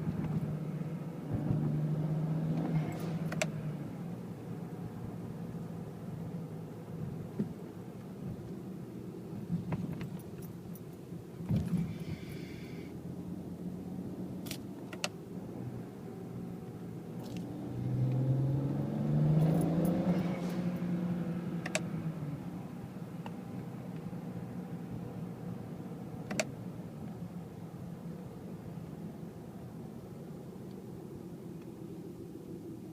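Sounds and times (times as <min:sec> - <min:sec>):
car engine running and revving: 0:00.0 - 0:32.9.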